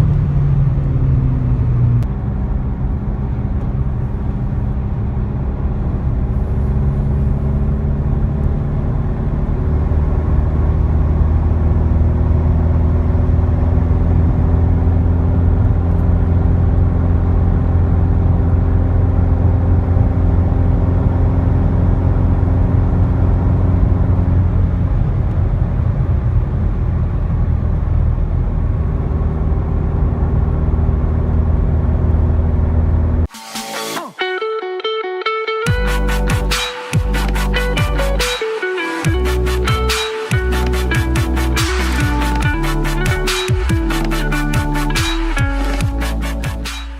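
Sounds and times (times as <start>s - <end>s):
car engine humming: 0.0s - 33.3s, 35.7s - 46.9s.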